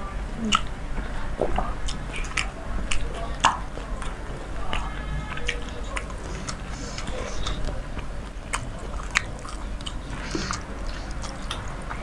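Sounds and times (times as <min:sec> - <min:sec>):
low steady hum: 0:00.0 - 0:12.0
wet chewing mouth clicks: 0:00.4 - 0:12.0.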